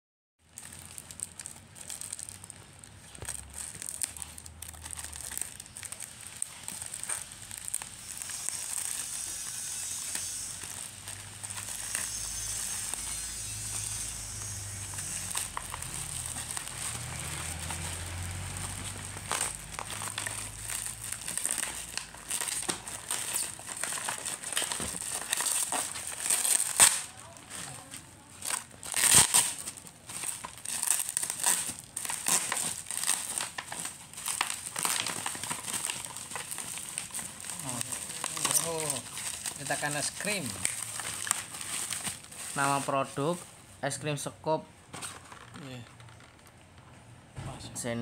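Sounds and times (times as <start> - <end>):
plastic tearing: 0.4 - 43.4, 44.9 - 46.8
plastic packaging crinkling: 0.4 - 43.5, 44.9 - 46.8
scissors cutting plastic: 3.1 - 42.7.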